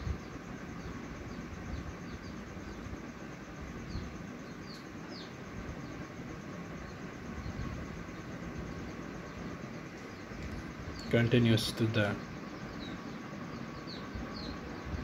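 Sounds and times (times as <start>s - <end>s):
small bird chirping: 0.0s - 15.0s
steady background noise: 0.0s - 15.0s.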